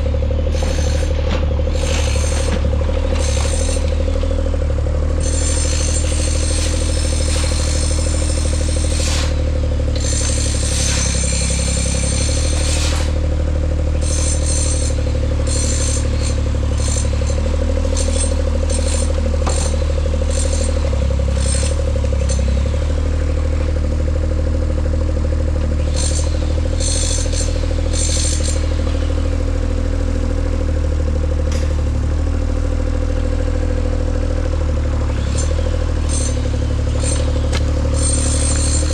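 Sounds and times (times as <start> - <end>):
engine running with whine: 0.0 - 38.9.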